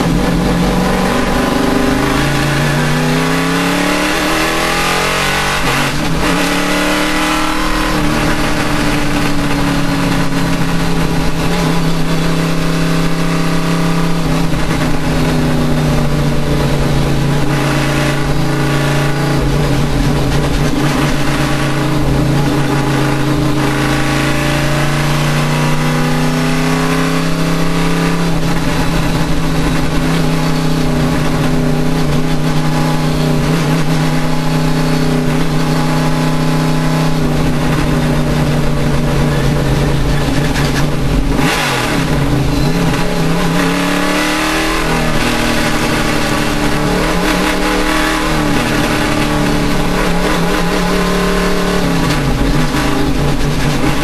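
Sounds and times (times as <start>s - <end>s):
racing engine revving: 0.0s - 54.0s.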